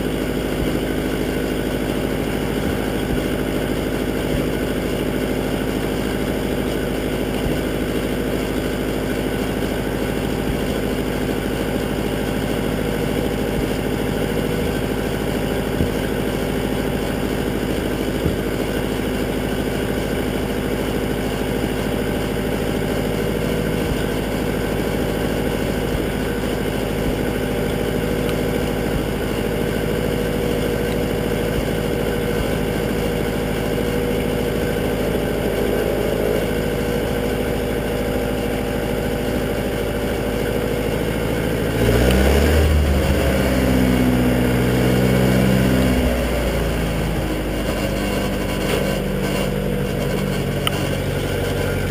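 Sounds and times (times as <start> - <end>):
tractor engine idling: 0.0 - 51.9.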